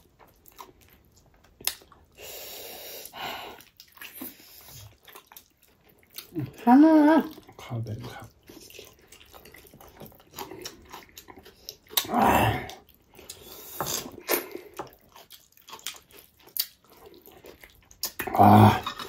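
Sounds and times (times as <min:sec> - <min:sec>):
wet chewing and lip-smacking: 0:00.0 - 0:02.2, 0:02.8 - 0:19.0.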